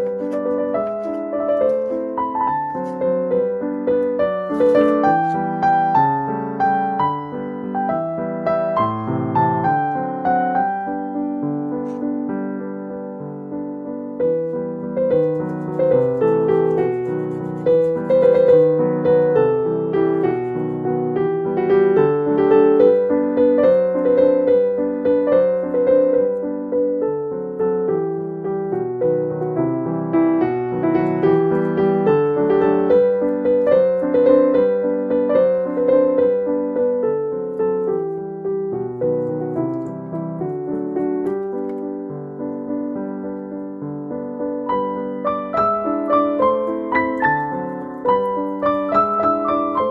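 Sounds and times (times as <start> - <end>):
solo piano: 0.0 - 49.9.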